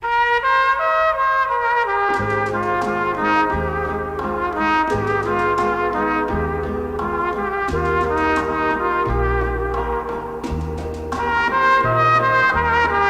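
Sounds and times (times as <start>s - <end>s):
brass trumpet melody: 0.0s - 13.0s
low bass line: 2.2s - 13.0s.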